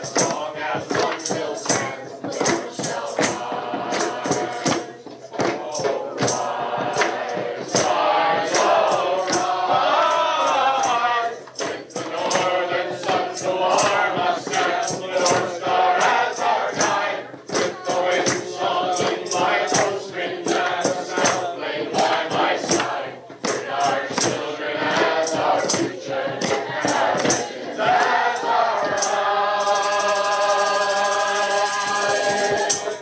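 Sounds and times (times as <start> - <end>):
choir singing: 0.0 - 33.0
sharp steady beat: 0.0 - 33.0.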